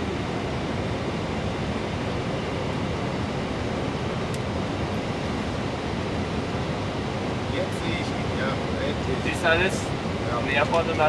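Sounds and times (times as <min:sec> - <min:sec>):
airflow and engine noise in cockpit: 0:00.0 - 0:11.0.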